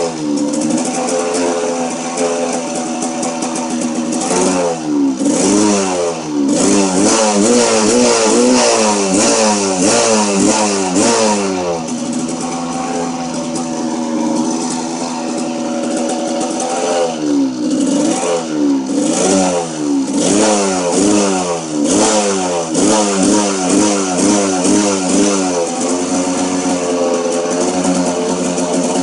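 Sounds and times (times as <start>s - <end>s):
dirt bike engine idling and revving: 0.0s - 29.0s.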